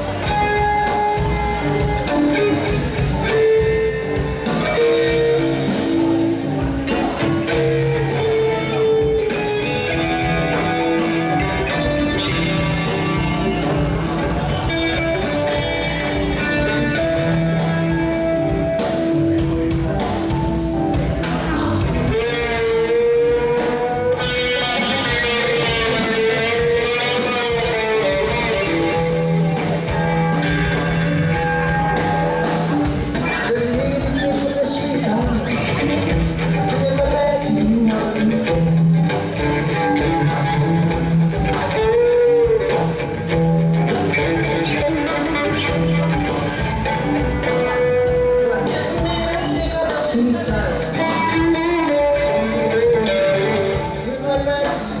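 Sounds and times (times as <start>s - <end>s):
guitar-led band music: 0.0s - 55.0s.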